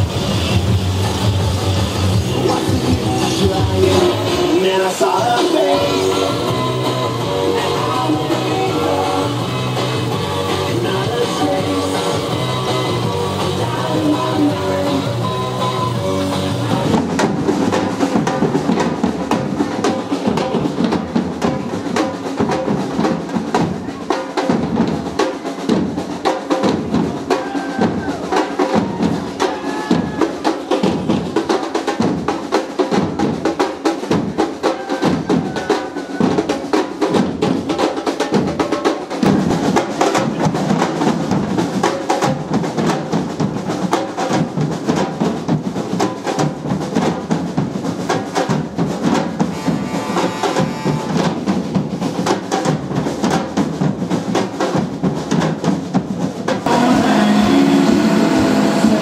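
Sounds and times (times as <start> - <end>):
snare and hand percussion: 0.0 - 59.0.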